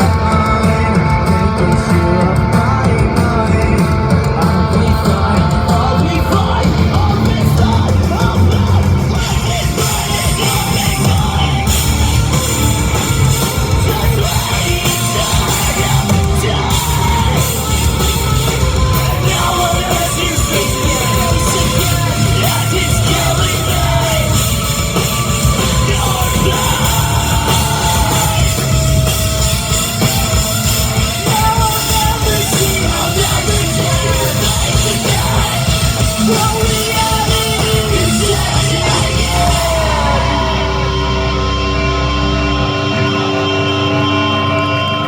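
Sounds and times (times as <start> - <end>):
live rock band: 0.0 - 45.0
yelled and sung vocals: 0.0 - 45.0.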